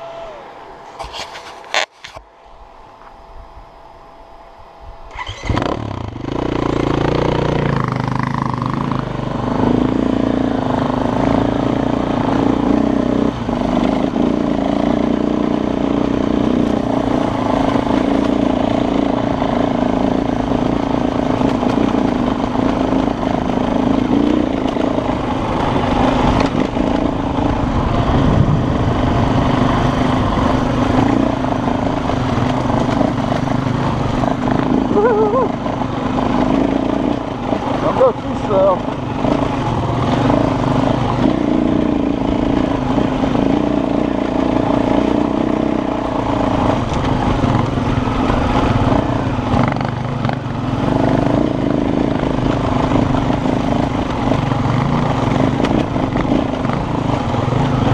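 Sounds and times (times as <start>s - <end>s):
dirt bike engine running: 0.0s - 57.9s.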